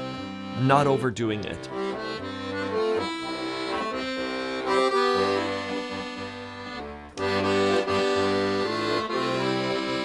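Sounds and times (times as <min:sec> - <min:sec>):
accordion melody: 0:00.0 - 0:10.0.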